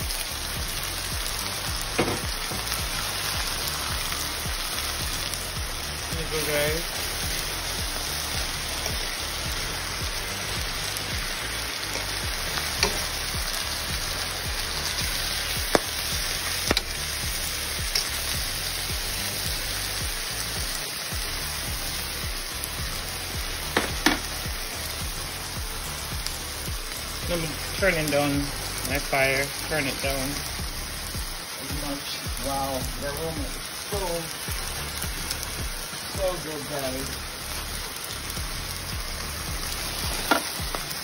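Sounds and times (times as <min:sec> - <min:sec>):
fish and vegetables sizzling in pan: 0:00.0 - 0:41.0.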